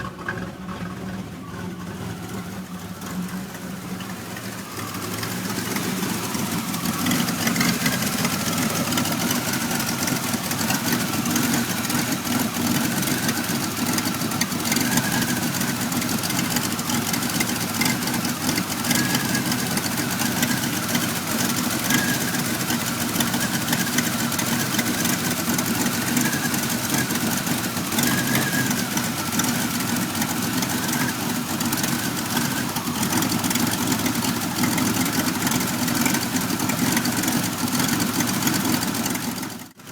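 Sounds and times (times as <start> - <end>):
car engine idling roughly: 0.0 - 39.9.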